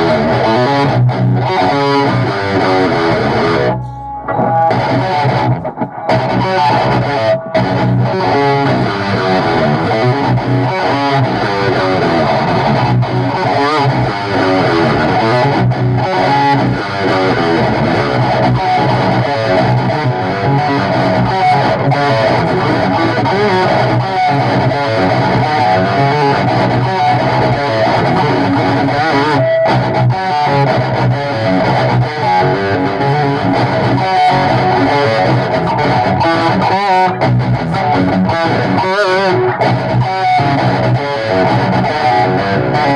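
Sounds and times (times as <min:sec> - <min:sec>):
bass guitar: 0:00.0 - 0:42.9
distorted electric guitar: 0:00.0 - 0:42.9.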